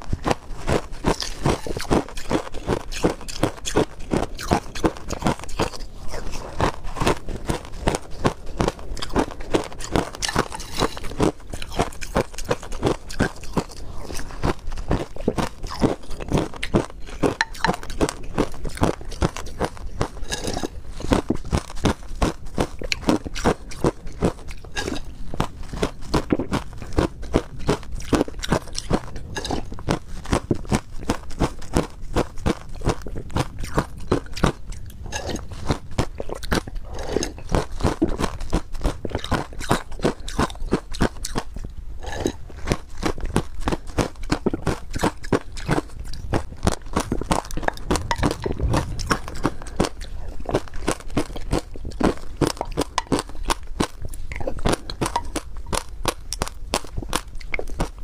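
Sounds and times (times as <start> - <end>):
person crunching ice: 0.0 - 58.0.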